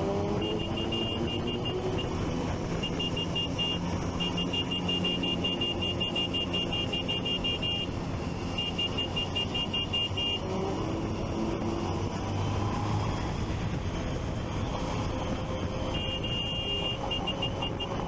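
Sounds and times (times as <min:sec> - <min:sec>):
motorcycle engine: 0:00.0 - 0:18.0
traffic noise: 0:00.0 - 0:18.0.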